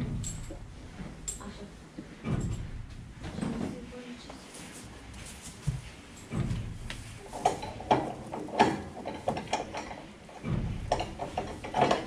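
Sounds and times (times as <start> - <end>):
knocks and metallic clatter: 0.0 - 3.9, 5.6 - 12.0.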